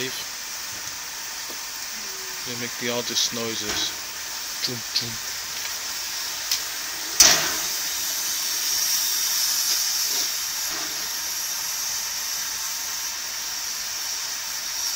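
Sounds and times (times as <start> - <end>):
loud steam blast: 0.0 - 14.9
steam hissing: 0.0 - 14.9.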